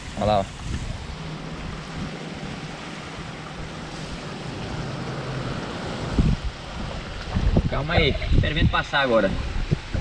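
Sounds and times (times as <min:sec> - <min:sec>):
strong wind on microphone: 0:00.0 - 0:10.0.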